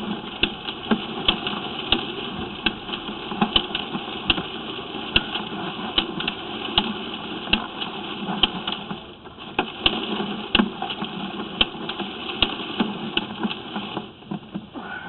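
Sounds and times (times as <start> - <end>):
sharp clicks and knocks: 0.0 - 14.8
mechanical hum: 0.0 - 15.0.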